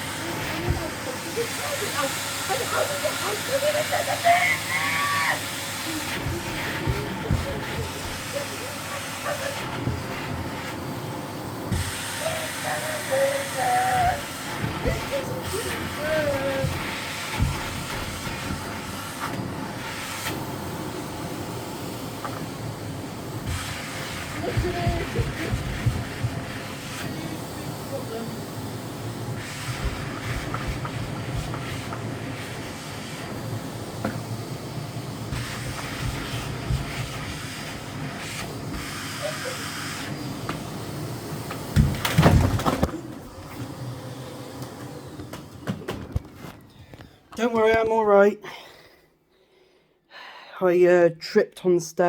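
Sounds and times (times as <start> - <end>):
vacuum cleaner running: 0.0 - 47.7.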